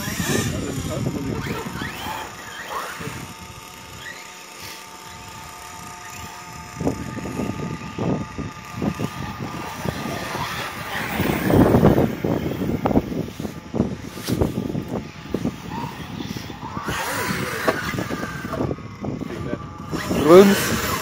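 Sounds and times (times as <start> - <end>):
toy car motor whine: 0.0 - 21.0.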